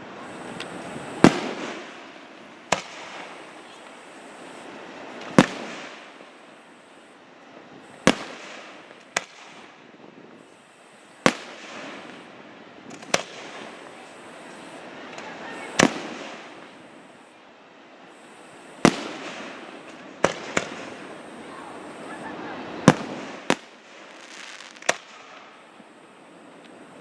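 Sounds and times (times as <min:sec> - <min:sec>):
burning fireworks hiss: 0:00.0 - 0:27.0
fireworks shells booming: 0:00.4 - 0:06.5, 0:07.8 - 0:09.8, 0:10.4 - 0:17.3, 0:18.1 - 0:22.1, 0:22.8 - 0:25.8.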